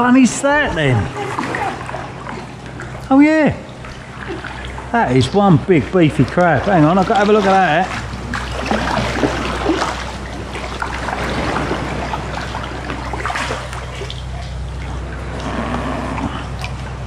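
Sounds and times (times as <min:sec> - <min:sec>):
paddle splashing in water: 0:01.1 - 0:15.6
water dripping: 0:01.2 - 0:15.6.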